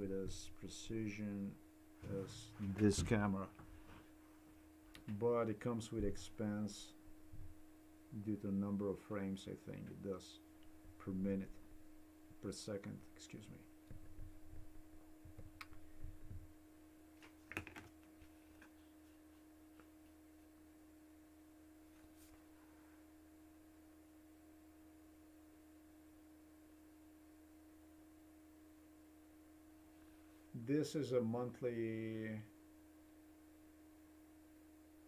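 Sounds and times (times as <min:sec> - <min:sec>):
faint steady hum tone: 0:00.0 - 0:35.0.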